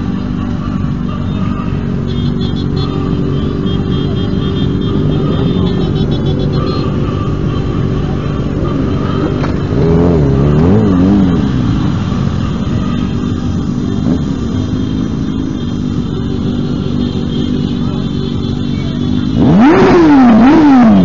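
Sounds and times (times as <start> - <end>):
motorcycle engine revving: 0.0 - 21.0
motorcycle engines running: 0.0 - 21.0.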